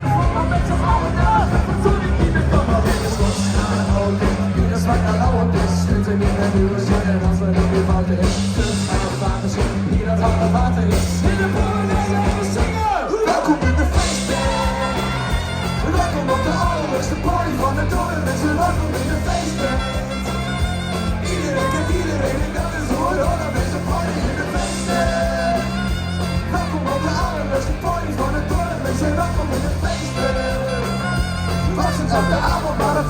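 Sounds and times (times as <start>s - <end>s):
live rock band with vocals: 0.0s - 33.0s.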